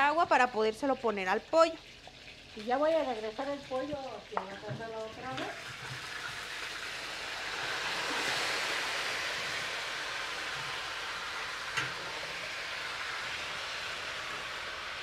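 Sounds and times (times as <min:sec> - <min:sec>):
chicken sizzling in a pot: 0:00.0 - 0:15.0.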